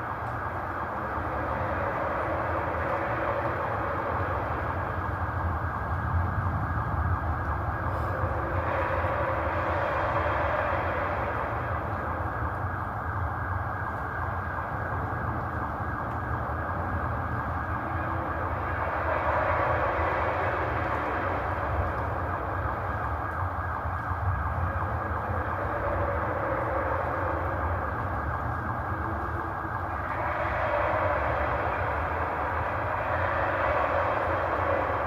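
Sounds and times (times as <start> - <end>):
low droning rumble from sky: 0.0 - 35.0.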